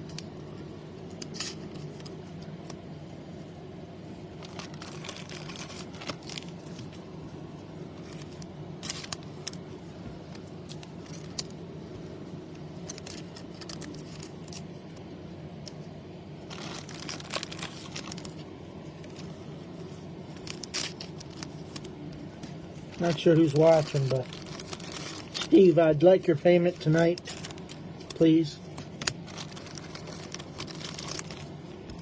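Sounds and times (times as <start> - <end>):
plastic sleeves crinkling: 0.0 - 32.0
steady low hum: 0.0 - 32.0.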